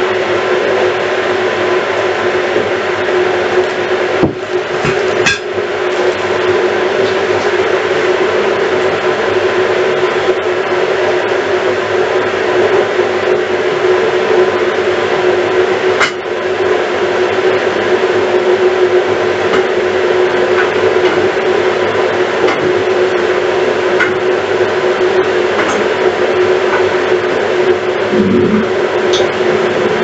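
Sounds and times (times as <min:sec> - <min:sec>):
range hood fan humming: 0:00.0 - 0:30.0.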